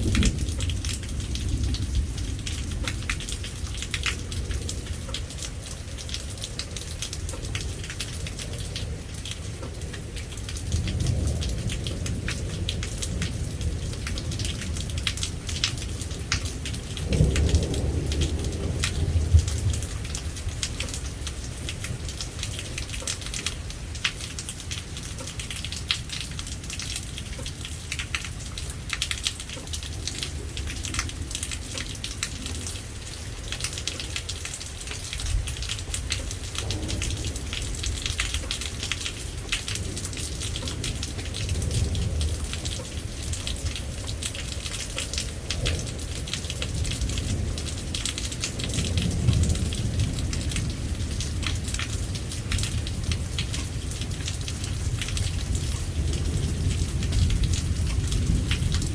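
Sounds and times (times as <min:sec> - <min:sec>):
rain drops pattering: 0:00.0 - 0:58.9.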